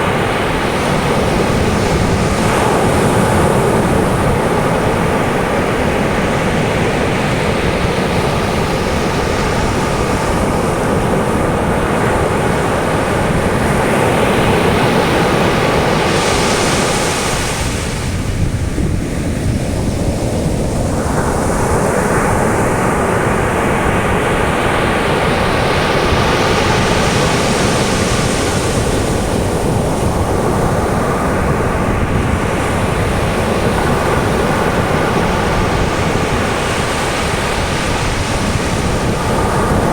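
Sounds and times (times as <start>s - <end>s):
surf breaking on sand beach: 0.0s - 39.9s
wind buffeting microphone: 0.0s - 39.9s.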